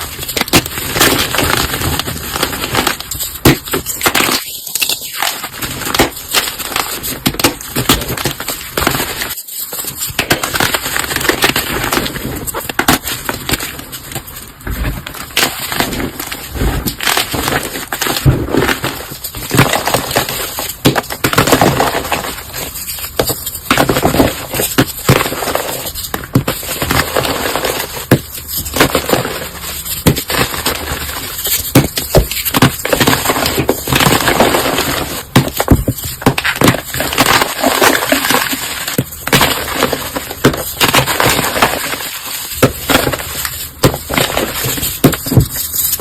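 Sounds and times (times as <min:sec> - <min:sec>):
brittle material crunching: 0:00.0 - 0:46.0.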